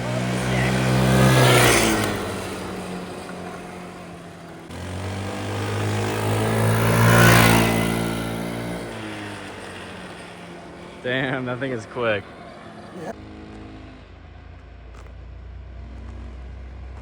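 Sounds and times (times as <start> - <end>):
scooter engine revving past: 0.0 - 14.5.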